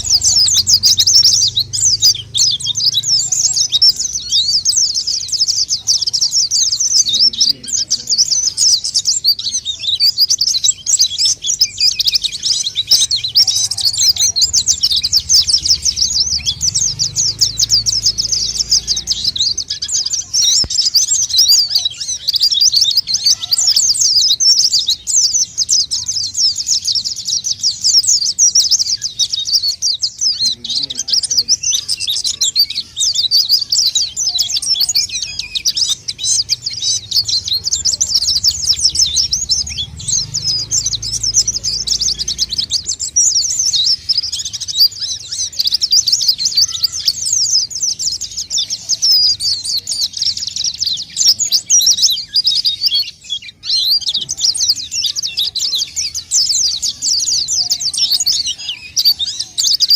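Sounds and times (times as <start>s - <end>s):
bird twittering chirps: 0.0s - 59.9s.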